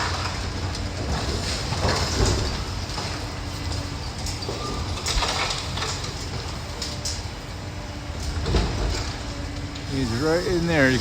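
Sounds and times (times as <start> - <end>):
debris scraping and crunching: 0.0 - 7.3, 8.1 - 11.0
excavator engine rumble: 0.0 - 11.0.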